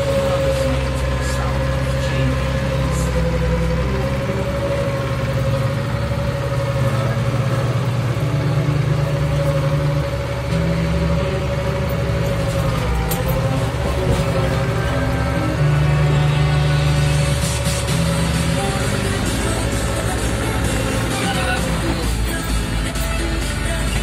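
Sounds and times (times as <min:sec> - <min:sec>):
high whine: 0:00.0 - 0:24.0
tractor engine droning: 0:00.0 - 0:24.0.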